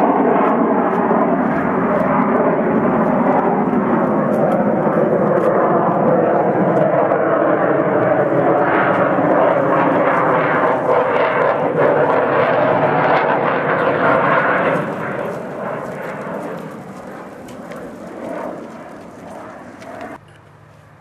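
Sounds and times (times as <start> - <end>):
jet flying overhead: 0.0 - 21.0.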